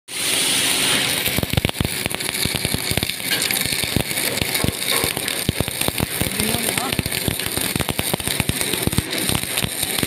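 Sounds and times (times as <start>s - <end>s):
welding arc crackling and popping: 0.1s - 10.0s.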